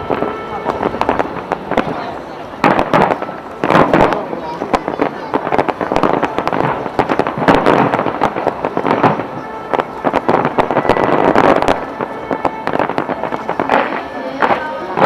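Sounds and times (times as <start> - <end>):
music playing: 0.0 - 5.0, 6.0 - 15.0
fireworks bangs and crackles: 0.0 - 15.0.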